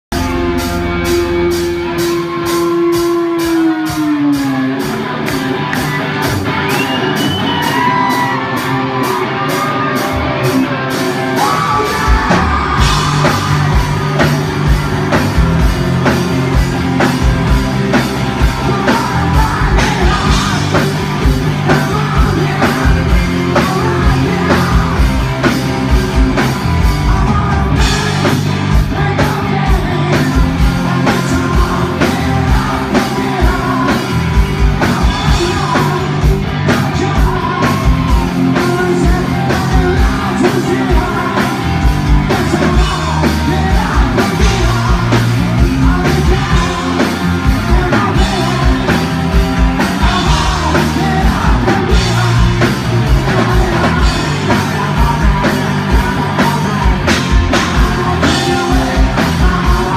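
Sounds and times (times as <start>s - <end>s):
rock band playing live: 0.0s - 59.9s
person singing: 6.8s - 59.9s.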